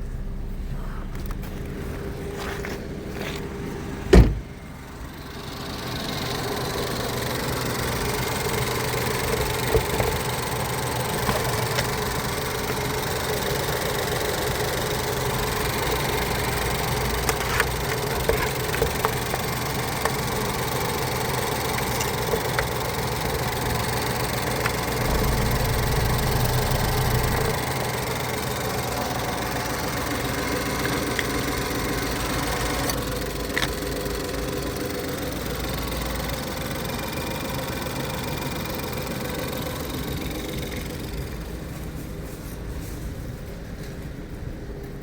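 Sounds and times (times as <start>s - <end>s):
car engine idling: 0.0s - 43.2s.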